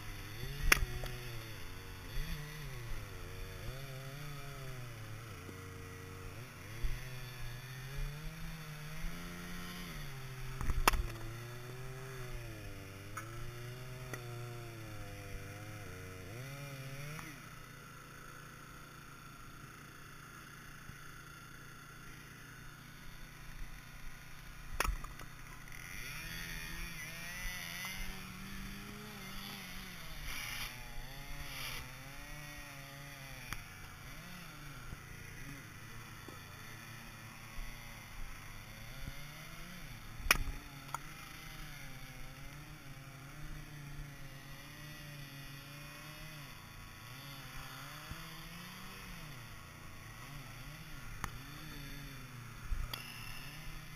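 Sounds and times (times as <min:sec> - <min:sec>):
small gas engine running: 0:00.0 - 0:53.9.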